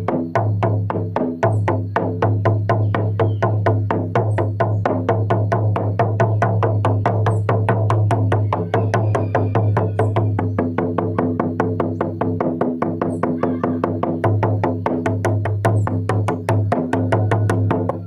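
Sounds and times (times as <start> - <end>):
drum beaten fast: 0.0 - 18.0.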